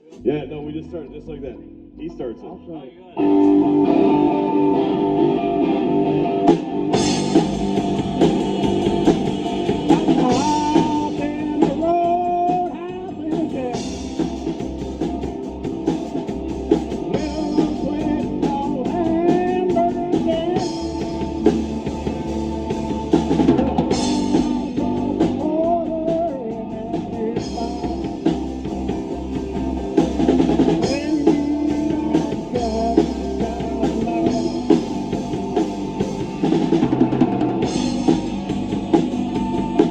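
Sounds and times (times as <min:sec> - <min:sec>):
bass guitar: 0:00.0 - 0:39.9
drum kit: 0:03.2 - 0:39.9
electric guitar: 0:03.2 - 0:39.9.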